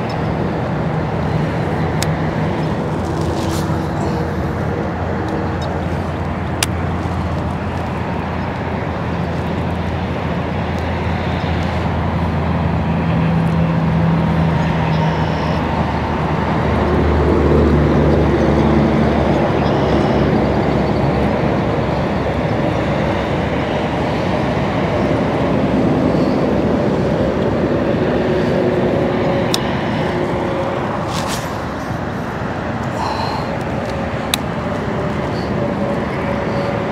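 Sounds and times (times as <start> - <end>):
vehicle engine and road rumble: 0.0 - 36.9.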